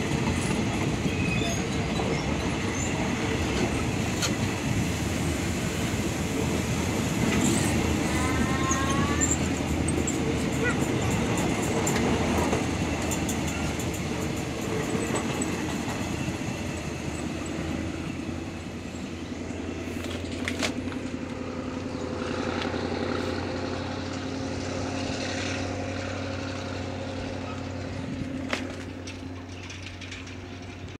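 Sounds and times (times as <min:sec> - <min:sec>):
diesel locomotive engine running: 0:00.0 - 0:30.9
train wheels clattering over rails: 0:00.0 - 0:30.9.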